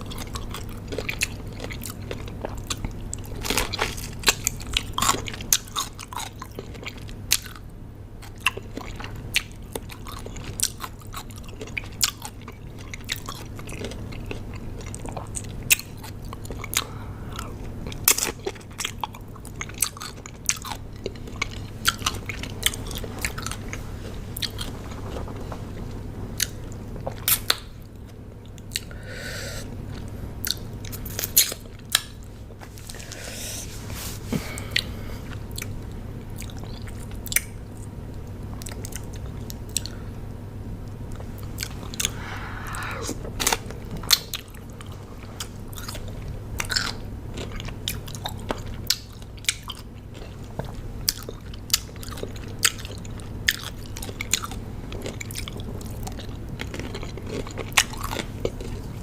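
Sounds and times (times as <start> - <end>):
chewing crunchy cucumber: 0.0 - 29.0, 29.7 - 33.2, 34.6 - 40.1, 40.8 - 59.0.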